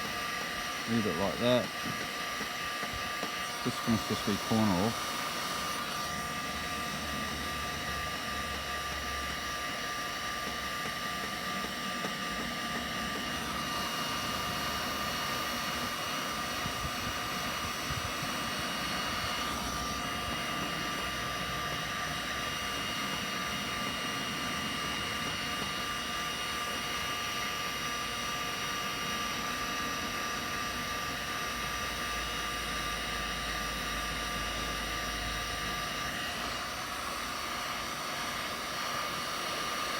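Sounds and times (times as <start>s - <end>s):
heat gun running: 0.0s - 39.9s.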